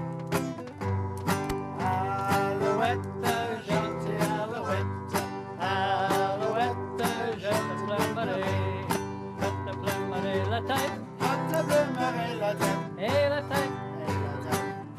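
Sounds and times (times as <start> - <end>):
acoustic guitars strumming: 0.0 - 14.9
person singing: 1.7 - 14.9.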